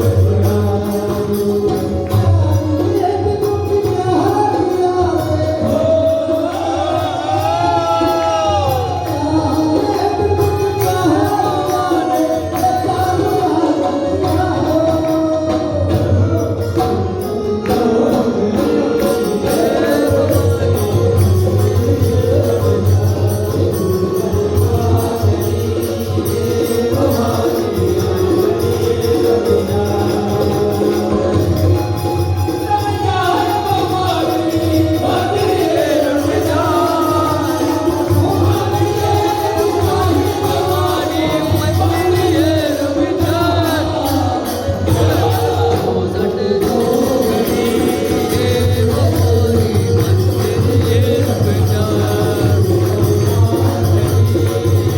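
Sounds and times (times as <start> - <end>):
devotional singing: 0.0 - 54.9
instrumental accompaniment: 0.0 - 54.9.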